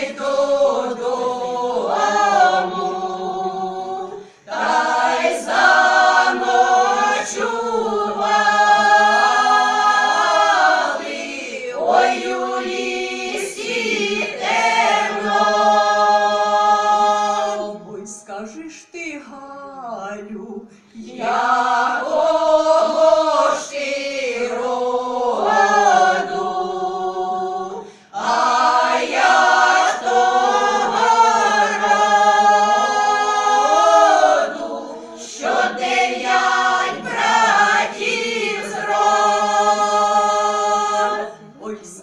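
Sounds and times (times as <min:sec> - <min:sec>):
women's choir singing a cappella: 0:00.0 - 0:18.2, 0:20.4 - 0:42.0.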